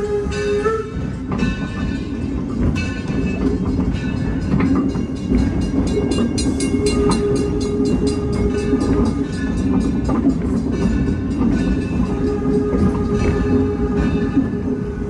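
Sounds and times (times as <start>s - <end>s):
rail clicks: 0.0s - 15.0s
train rumbling on rails: 0.0s - 15.0s.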